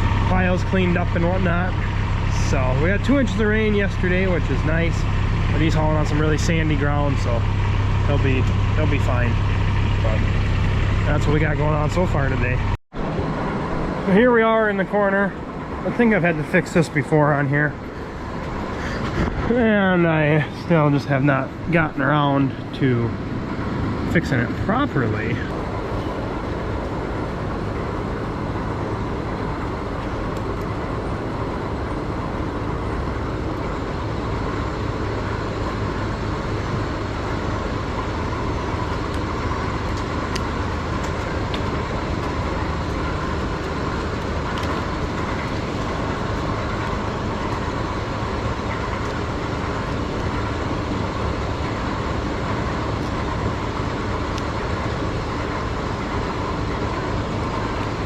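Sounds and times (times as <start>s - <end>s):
machinery droning: 0.0s - 58.0s.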